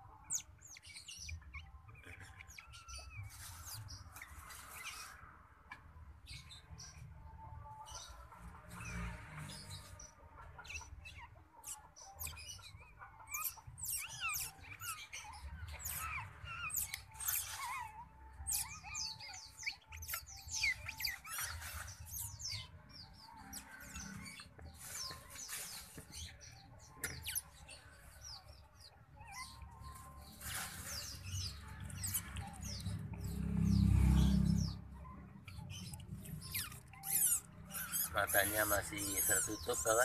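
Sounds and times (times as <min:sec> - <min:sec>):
otter pups squeaking: 0:00.0 - 0:40.0.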